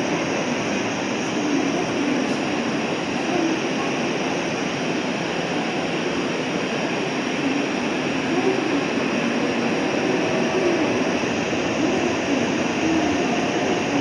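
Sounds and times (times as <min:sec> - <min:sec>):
busy railway platform din: 0:00.0 - 0:14.0.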